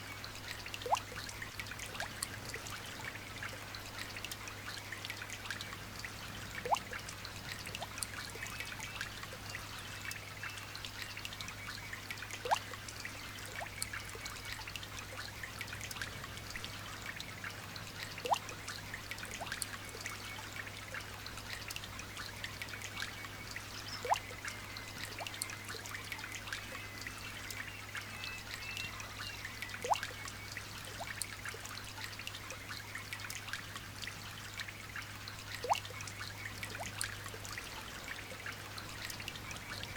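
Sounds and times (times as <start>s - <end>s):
light rain pattering: 0.0s - 39.9s
water drip plopping: 0.4s - 2.8s, 3.4s - 17.2s, 17.9s - 20.2s, 20.9s - 39.9s.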